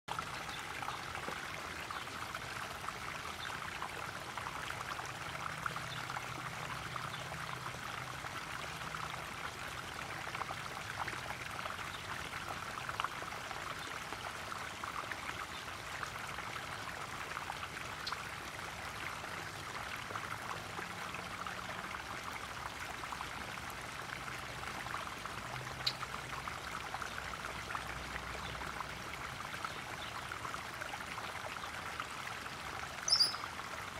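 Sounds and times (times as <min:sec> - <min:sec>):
waterfall pouring into pond: 0:00.1 - 0:33.9.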